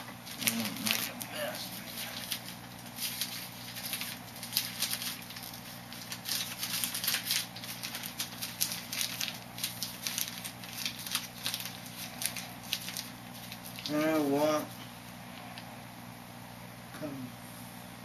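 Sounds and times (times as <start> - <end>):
plastic bag crinkling: 0.2 - 14.8.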